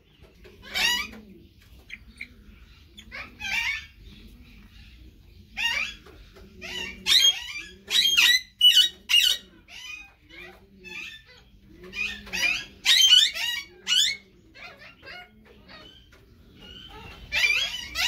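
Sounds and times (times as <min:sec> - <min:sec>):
birds squawking and chattering: 0:00.0 - 0:18.0
faint low bird calls: 0:00.0 - 0:18.0.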